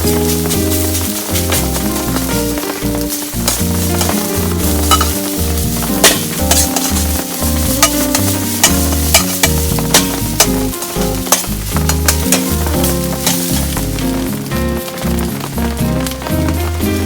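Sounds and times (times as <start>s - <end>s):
utensil clinking against wok: 0.0s - 16.9s
food sizzling in a wok: 0.0s - 17.0s
music with low bass: 0.0s - 17.0s.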